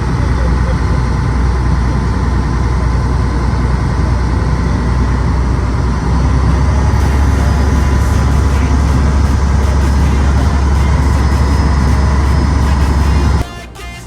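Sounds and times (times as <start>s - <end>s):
low engine drone: 0.0s - 14.0s
rushing noise: 0.0s - 14.0s.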